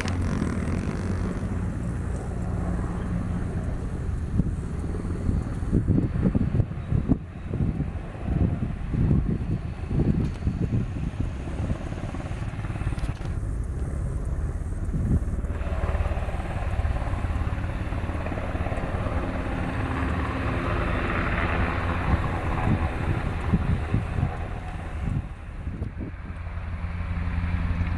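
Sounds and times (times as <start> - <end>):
helicopter rotors and engines: 0.0 - 27.9.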